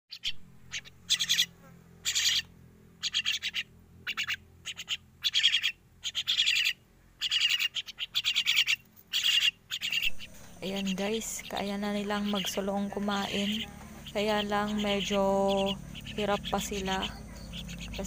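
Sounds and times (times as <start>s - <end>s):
mynas giving harsh raspy calls: 0.1s - 18.0s.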